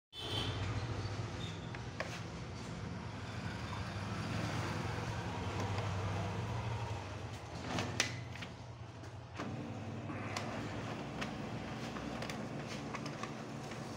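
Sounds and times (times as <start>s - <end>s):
printer mechanical hum: 1.7s - 13.9s.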